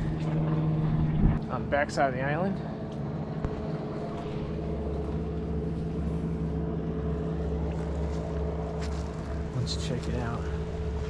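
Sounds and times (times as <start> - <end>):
motor running: 0.0 - 11.0.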